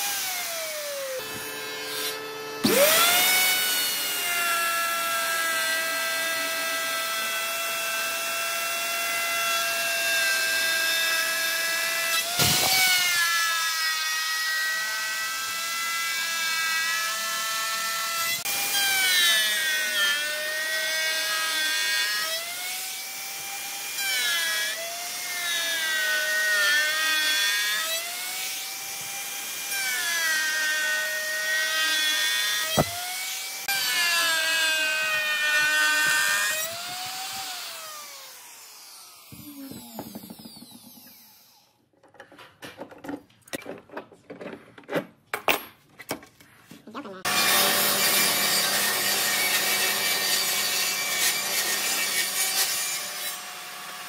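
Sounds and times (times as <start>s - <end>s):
router whining cutting wood: 0.0s - 41.8s, 47.2s - 54.0s.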